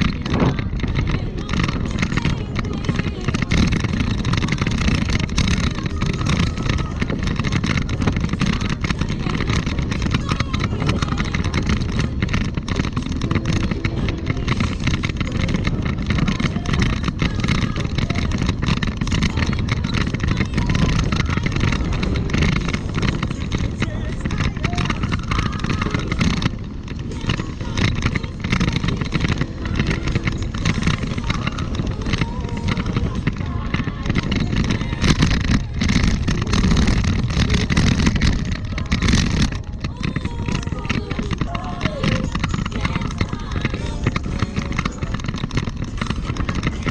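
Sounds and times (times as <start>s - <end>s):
small bumps: 0.0s - 46.9s
wheels rumbling on rough pavement: 0.0s - 46.9s
wind on microphone: 0.0s - 46.9s.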